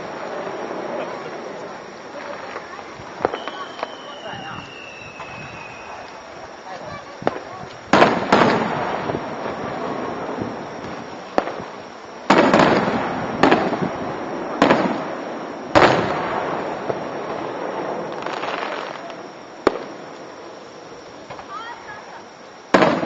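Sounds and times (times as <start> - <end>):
fireworks booming: 0.0 - 23.0
fireworks crackling: 0.0 - 23.0.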